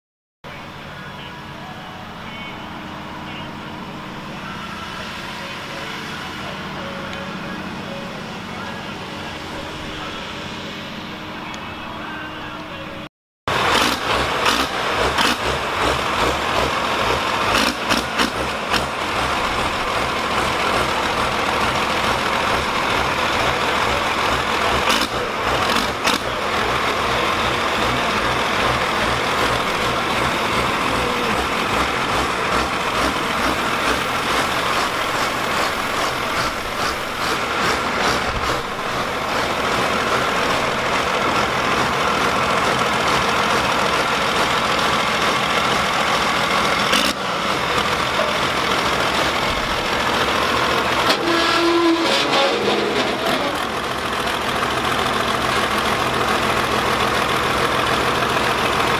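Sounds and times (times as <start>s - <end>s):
diesel engine idling: 0.4s - 58.9s.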